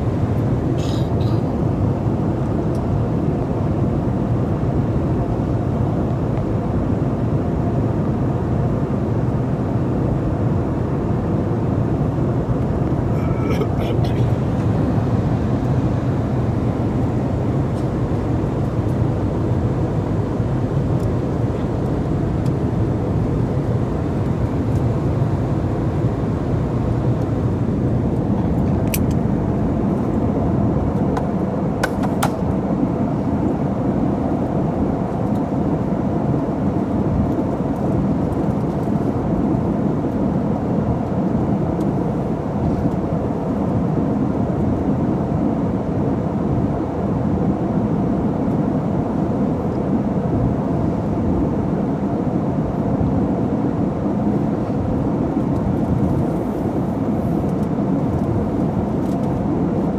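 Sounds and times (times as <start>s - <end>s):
airliner cabin rumble: 0.0s - 6.2s, 8.9s - 45.2s, 46.4s - 59.9s.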